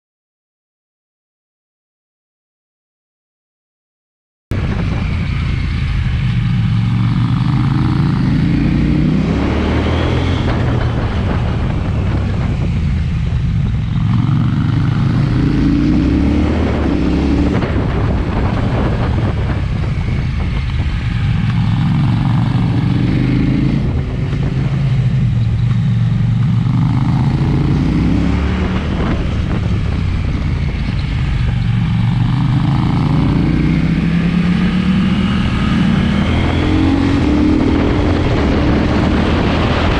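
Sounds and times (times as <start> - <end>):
motorcycle engine revving: 4.5 - 39.9.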